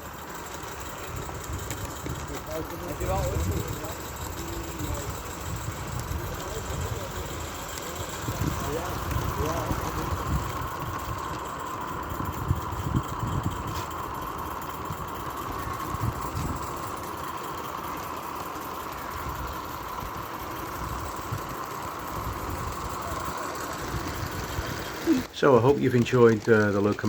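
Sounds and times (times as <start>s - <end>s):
model steam locomotive running: 0.0s - 27.0s.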